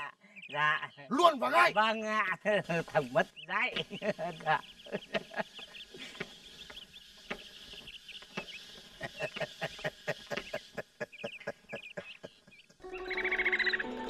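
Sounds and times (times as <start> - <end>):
chickens clucking: 0.0 - 14.0
small birds chirping: 0.0 - 14.0.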